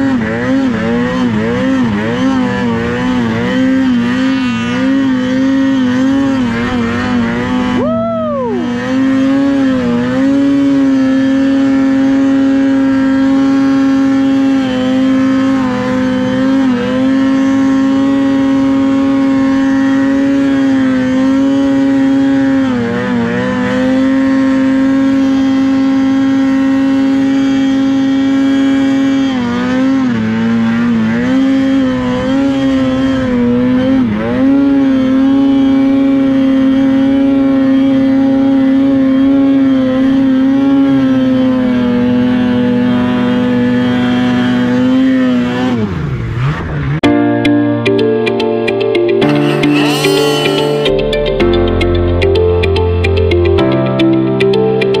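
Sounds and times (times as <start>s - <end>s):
snowmobile engine at high revs: 0.0s - 47.2s, 49.0s - 55.0s.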